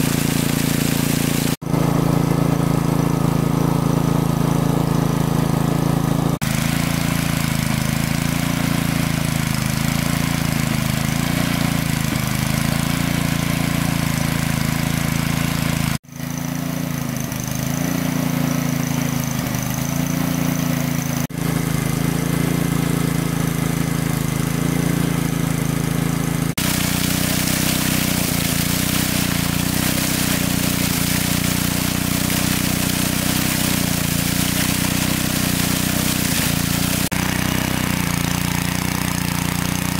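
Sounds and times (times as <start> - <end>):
water pump engine running: 0.0 - 39.9.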